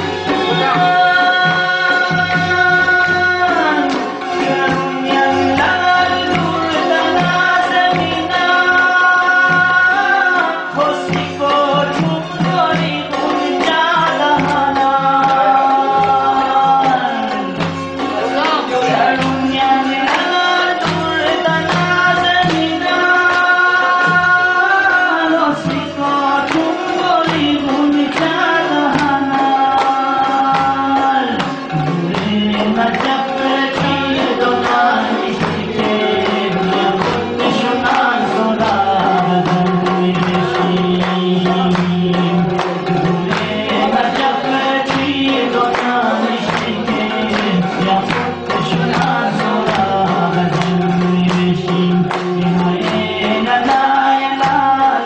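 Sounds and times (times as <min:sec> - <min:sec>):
man singing into a microphone: 0:00.0 - 0:55.0
steady drum beat: 0:00.0 - 0:55.0.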